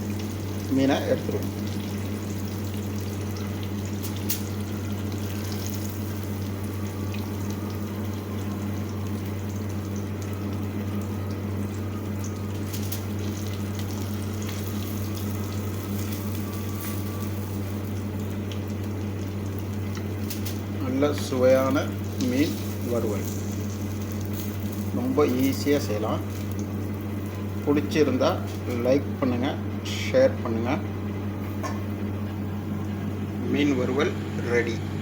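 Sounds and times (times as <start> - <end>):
fish frying in hot oil: 0.0 - 28.0
low electrical hum: 0.0 - 35.0.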